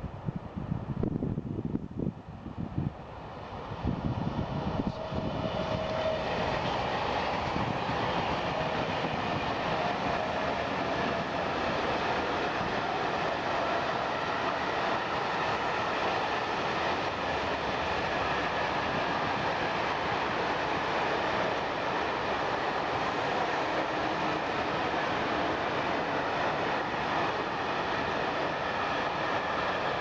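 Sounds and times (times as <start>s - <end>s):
train running past: 2.4s - 30.0s.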